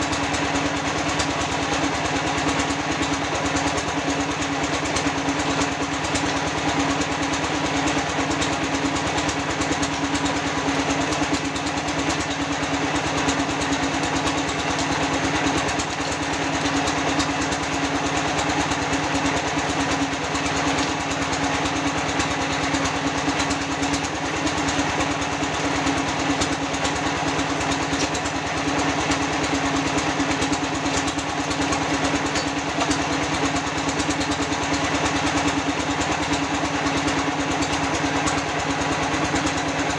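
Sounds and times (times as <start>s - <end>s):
machine motor humming and rattling: 0.0s - 39.9s.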